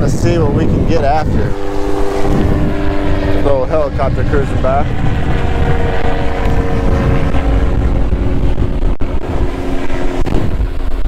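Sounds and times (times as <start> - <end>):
helicopter drone: 0.0 - 11.0
wind buffeting microphone: 0.0 - 11.0.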